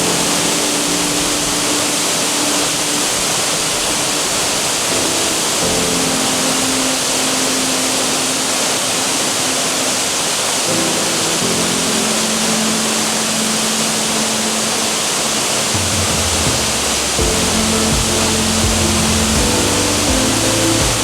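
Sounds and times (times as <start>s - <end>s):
slow background music: 0.0s - 21.0s
waterfall rushing: 0.0s - 21.0s.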